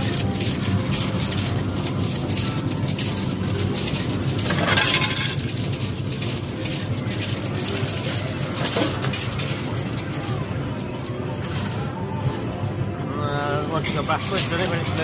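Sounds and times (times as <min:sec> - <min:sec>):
coins clinking and dropping: 0:00.0 - 0:12.7, 0:13.8 - 0:15.0
clatter of coins: 0:00.0 - 0:12.8, 0:13.6 - 0:15.0
din of arcade machines: 0:00.0 - 0:15.0.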